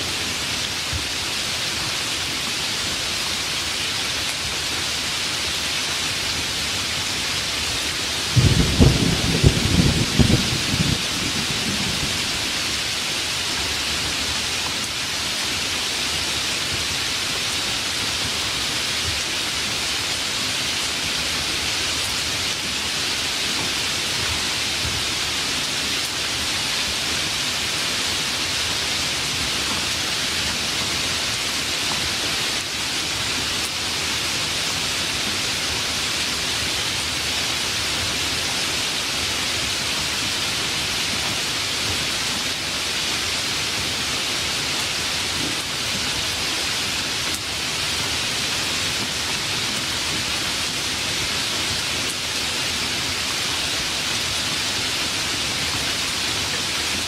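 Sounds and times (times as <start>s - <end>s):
rain falling steadily: 0.0s - 57.0s.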